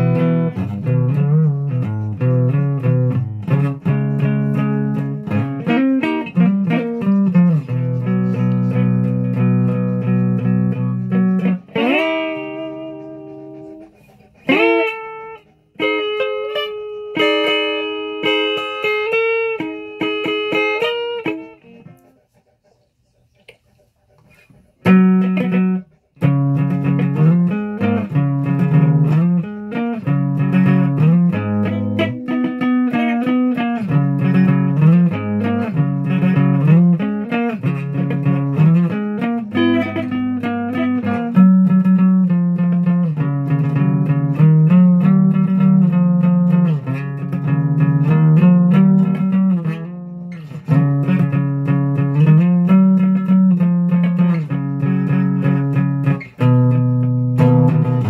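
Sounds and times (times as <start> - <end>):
plucked guitar notes: 0.0 - 21.9, 24.8 - 58.0.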